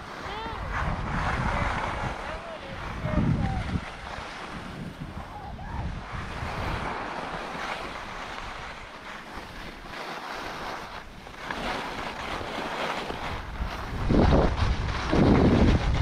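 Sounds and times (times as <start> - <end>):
skis scraping over snow: 0.0 - 5.3, 5.9 - 16.0
wind rushing over microphone: 0.0 - 16.0.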